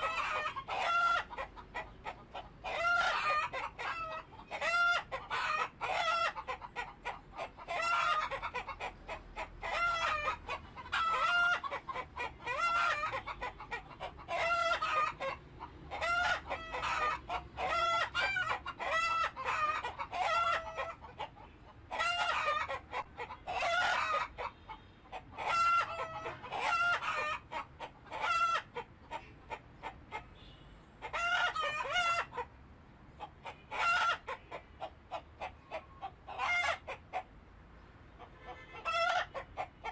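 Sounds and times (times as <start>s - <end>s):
chickens clucking and crowing: 0.0s - 39.9s.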